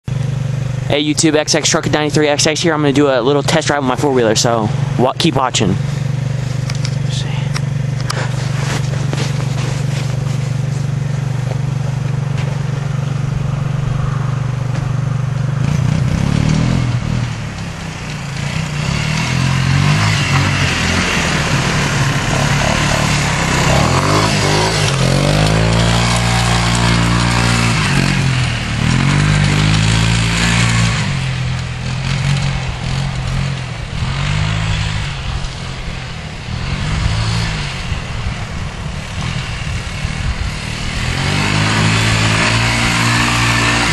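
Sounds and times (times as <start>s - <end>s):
quad bike engine revving: 0.1s - 43.9s.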